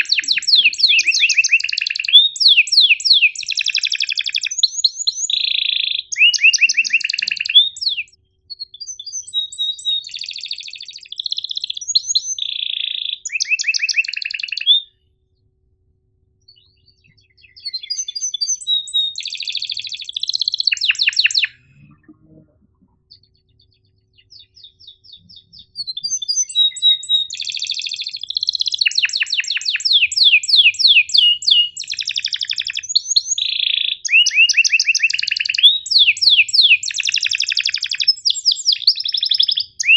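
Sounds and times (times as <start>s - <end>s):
canary singing trills: 0.0s - 15.0s, 16.5s - 39.9s.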